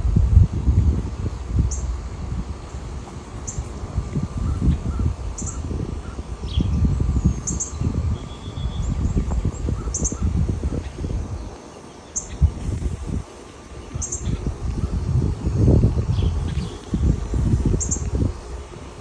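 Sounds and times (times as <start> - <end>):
wind buffeting microphone: 0.0 - 19.0
birds chirping: 1.2 - 19.0.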